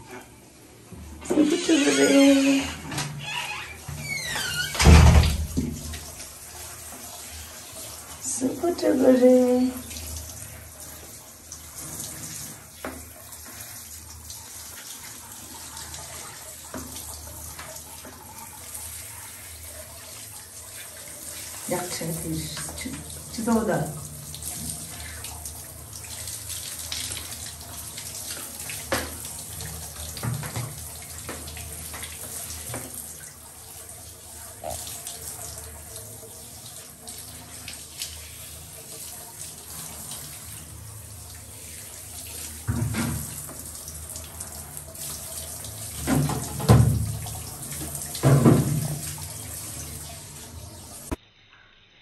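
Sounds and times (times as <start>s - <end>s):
shower water spraying: 1.2s - 51.2s.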